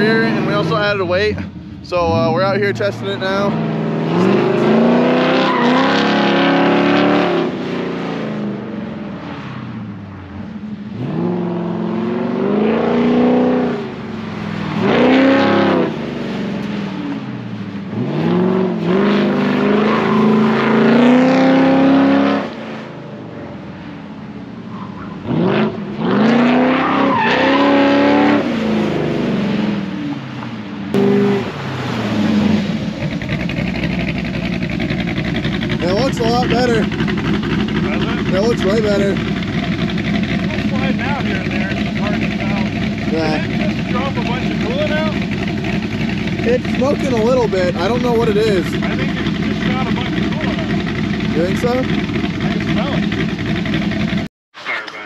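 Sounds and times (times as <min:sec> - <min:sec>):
truck engine revving: 0:00.0 - 0:22.9, 0:25.0 - 0:54.3.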